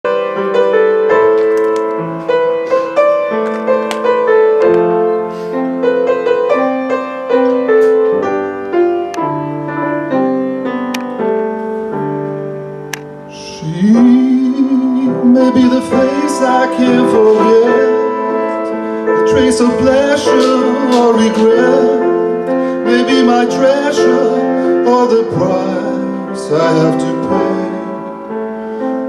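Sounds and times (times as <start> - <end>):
slow piano-like keyboard music: 0.0 - 29.0.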